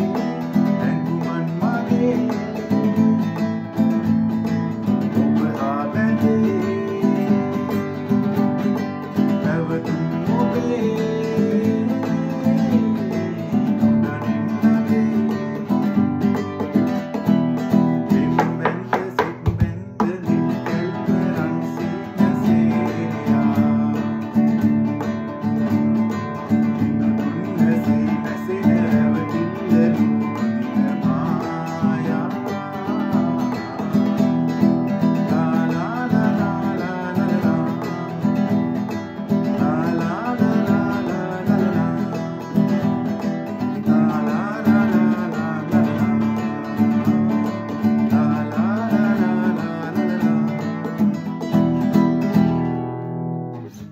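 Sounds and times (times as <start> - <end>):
man singing: 0.0 - 52.6, 53.6 - 53.9
classical guitar strummed: 0.0 - 53.9.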